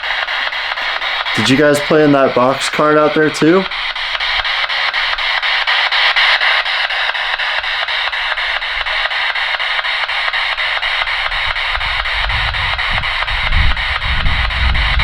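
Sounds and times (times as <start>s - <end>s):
pulsing radio static: 0.0s - 15.0s.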